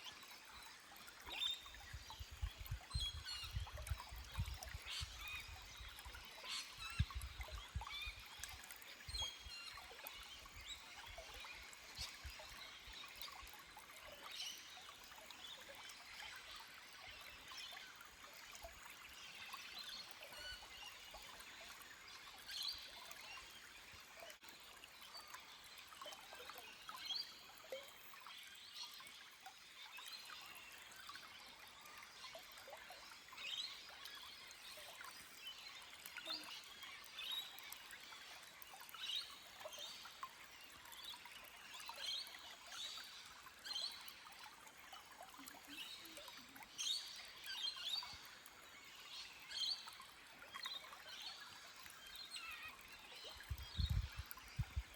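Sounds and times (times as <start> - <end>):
stream trickling over rocks: 0.0 - 54.9.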